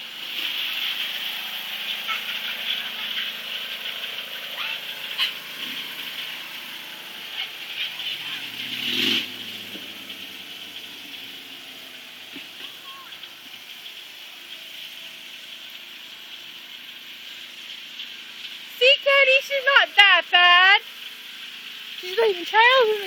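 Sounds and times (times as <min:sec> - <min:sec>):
lawn tractor engine running: 0:00.0 - 0:23.0.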